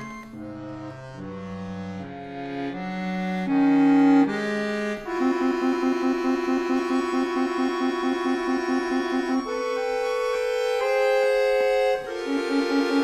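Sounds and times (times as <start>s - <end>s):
accordion playing chords: 0.0s - 13.0s.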